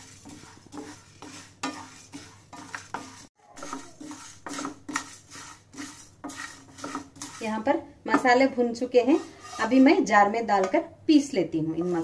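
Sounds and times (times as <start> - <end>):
utensil scraping and clinking pan: 0.0 - 10.8, 11.7 - 12.0.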